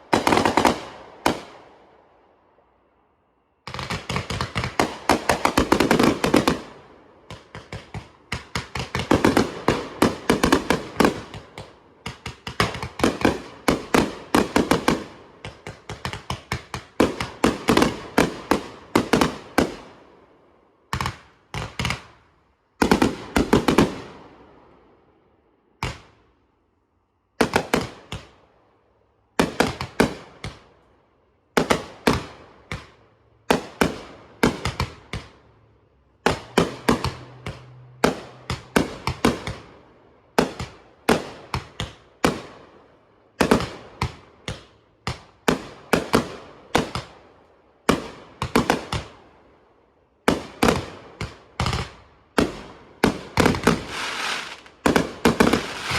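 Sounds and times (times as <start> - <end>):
fireworks bangs and crackling: 0.0 - 1.8, 3.6 - 20.1, 20.9 - 22.2, 22.8 - 24.5, 27.4 - 28.4, 29.4 - 30.7, 31.6 - 35.4, 36.2 - 47.2, 47.8 - 49.4, 50.2 - 55.9.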